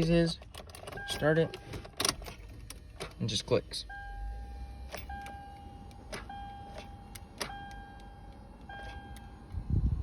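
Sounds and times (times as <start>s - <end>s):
car warning chime beeping: 0.9s - 9.6s.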